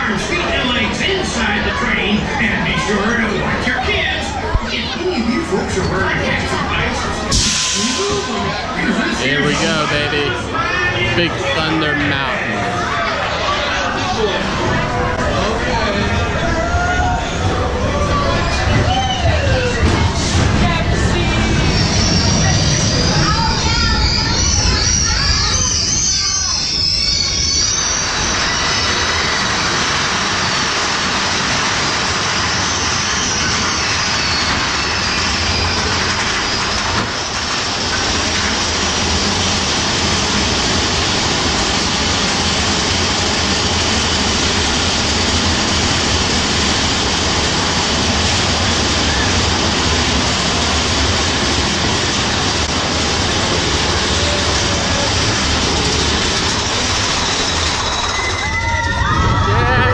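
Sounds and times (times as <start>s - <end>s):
roller coaster rumbling on track: 0.0s - 59.9s.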